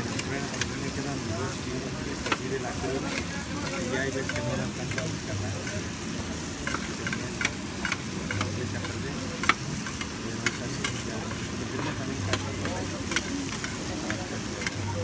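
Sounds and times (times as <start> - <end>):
sausages sizzling in fat: 0.0 - 15.0.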